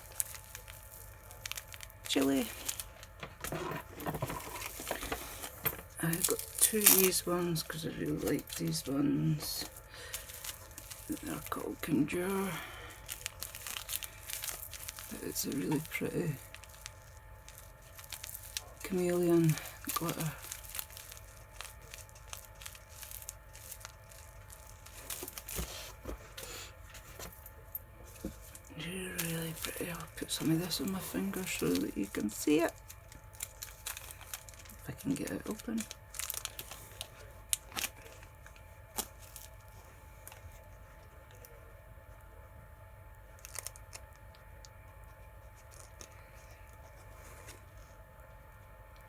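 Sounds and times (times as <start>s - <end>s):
packaging crinkling: 0.0s - 42.3s, 43.1s - 49.0s
steady low hum: 0.0s - 49.0s.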